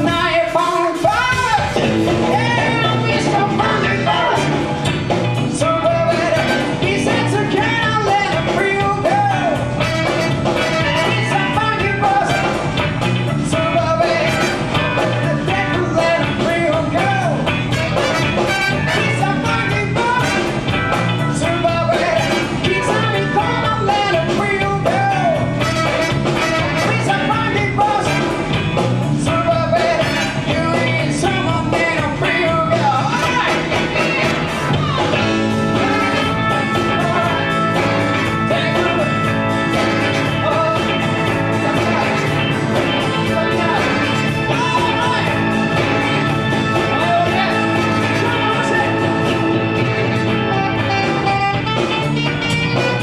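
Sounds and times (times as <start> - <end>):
live band playing up-tempo music: 0.0 - 53.0
melodic lead line: 0.0 - 53.0
steady drum beat: 0.0 - 53.0.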